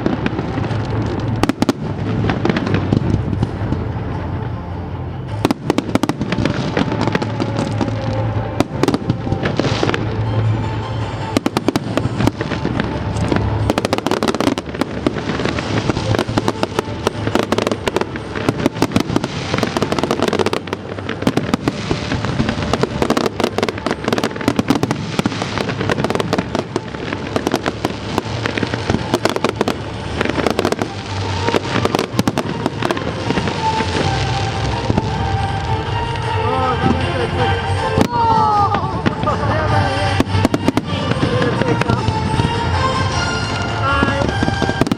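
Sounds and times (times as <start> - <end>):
fireworks bangs and crackles: 0.0 - 44.9
music playing: 0.0 - 44.9.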